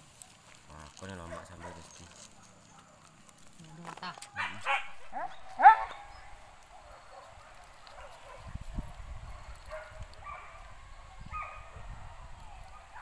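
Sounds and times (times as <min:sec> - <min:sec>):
faint dog barks: 0:00.1 - 0:03.3, 0:03.9 - 0:13.0.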